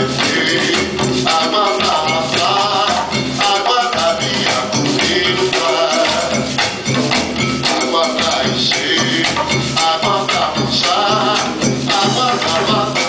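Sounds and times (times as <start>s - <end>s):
hand drums playing rhythm: 0.0s - 13.0s
people singing: 0.0s - 13.0s.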